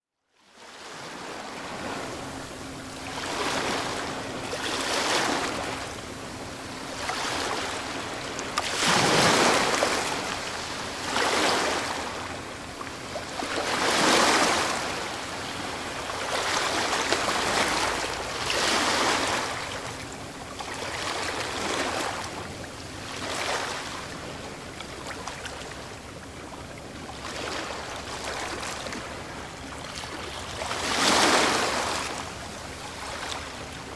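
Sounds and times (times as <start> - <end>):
ocean waves breaking on shore: 0.6 - 33.9.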